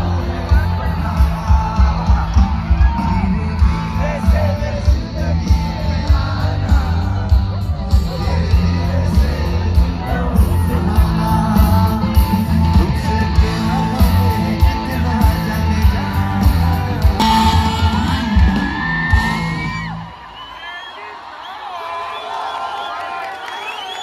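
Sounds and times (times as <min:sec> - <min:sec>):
person singing over heavy bass beat: 0:00.0 - 0:19.7
audience yelling and shouting: 0:00.0 - 0:24.0.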